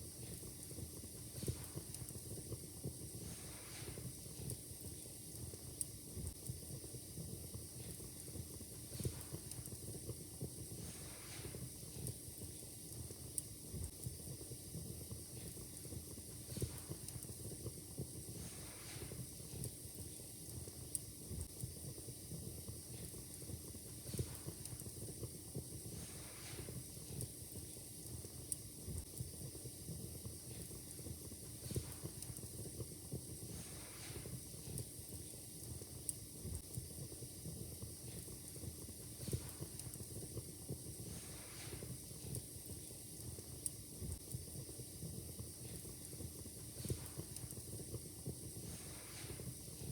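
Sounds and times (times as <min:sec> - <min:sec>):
low steady hiss: 0:00.0 - 0:49.9
wood fire crackling: 0:00.0 - 0:49.9.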